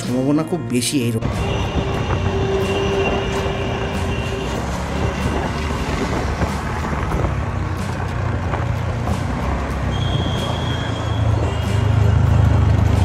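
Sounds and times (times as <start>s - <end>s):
road and wind noise: 0.0s - 13.0s
truck engine rumble: 1.2s - 13.0s.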